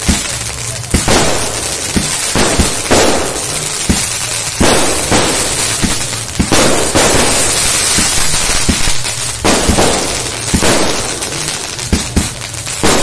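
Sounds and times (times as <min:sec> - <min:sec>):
firework crackling and sizzling: 0:00.0 - 0:13.0
firework shot bursts: 0:00.0 - 0:13.0.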